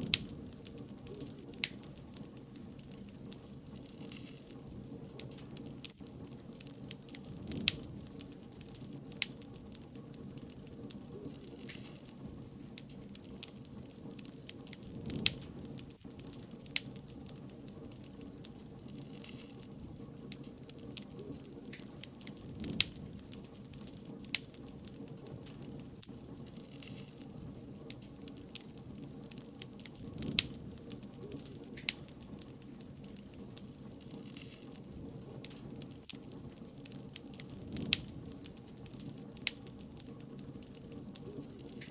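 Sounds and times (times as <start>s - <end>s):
bonfire crackling and popping: 0.0s - 41.9s.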